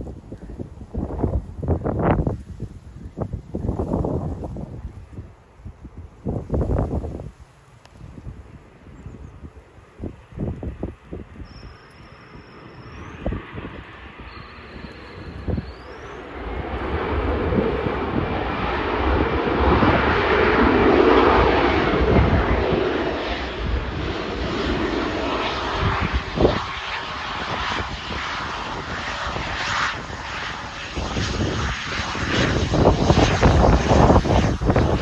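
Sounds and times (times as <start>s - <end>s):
wind buffeting microphone: 0.0s - 11.7s, 12.4s - 35.0s
jet engines roaring on takeoff: 3.0s - 35.0s.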